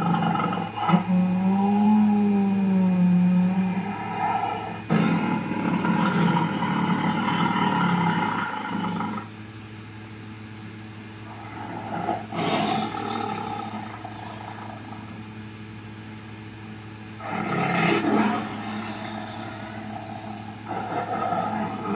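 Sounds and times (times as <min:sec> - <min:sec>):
dinosaur roar: 0:00.0 - 0:09.3, 0:11.3 - 0:15.2, 0:17.2 - 0:21.9
steady low hum: 0:00.0 - 0:21.9.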